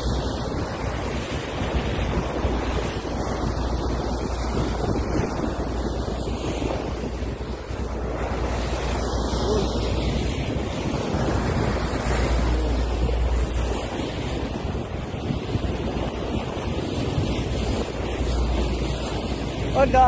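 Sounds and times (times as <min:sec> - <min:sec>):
water rushing along a hull: 0:00.0 - 0:20.0
wind buffeting microphone: 0:00.0 - 0:20.0.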